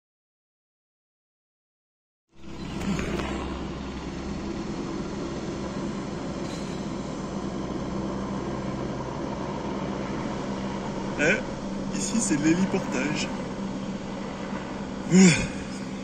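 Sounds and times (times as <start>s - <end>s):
helicopter running: 2.4s - 16.0s.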